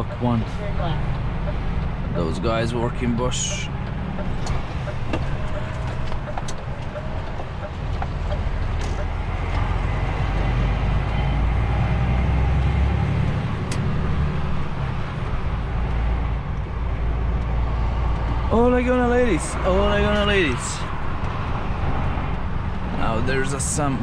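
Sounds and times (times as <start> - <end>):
truck engine and road rumble: 0.0 - 24.0.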